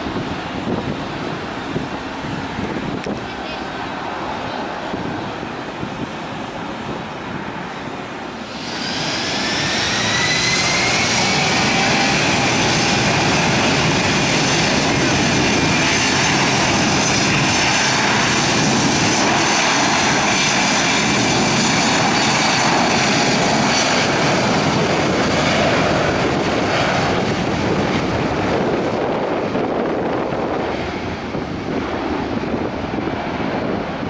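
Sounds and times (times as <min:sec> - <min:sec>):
airplane engines roaring: 0:00.0 - 0:34.0
high engine whine: 0:00.0 - 0:34.0.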